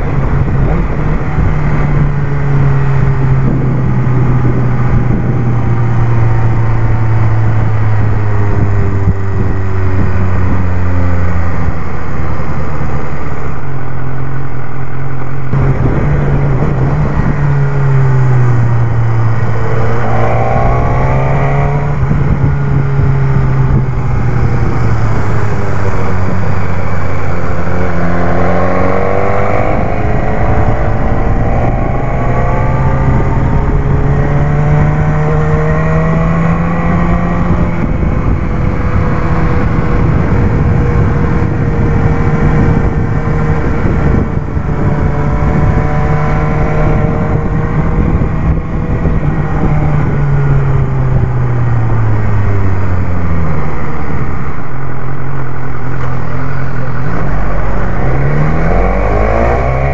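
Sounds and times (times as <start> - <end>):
motorcycle engine revving: 0.0 - 14.0, 14.8 - 59.9.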